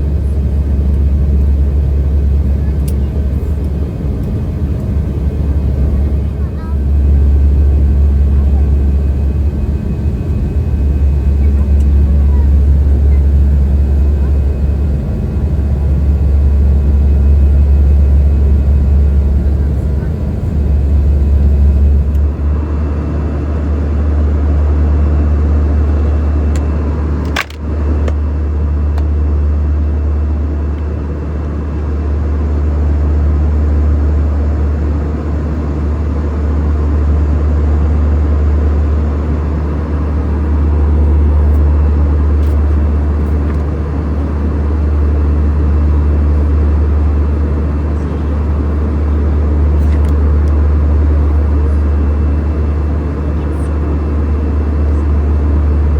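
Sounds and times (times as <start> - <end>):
airplane cabin drone: 0.0 - 55.9.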